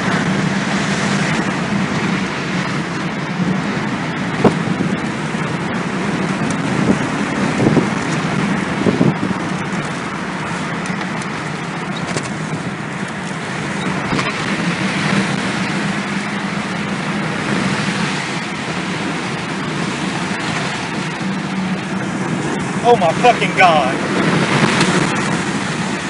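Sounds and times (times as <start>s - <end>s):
storm wind roaring: 0.0s - 26.0s.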